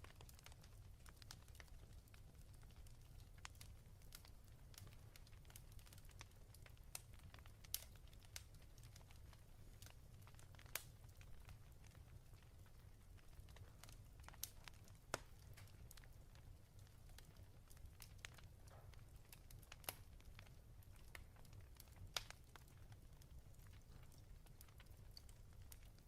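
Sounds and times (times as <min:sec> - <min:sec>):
fireplace wood crackling: 0:00.0 - 0:26.0.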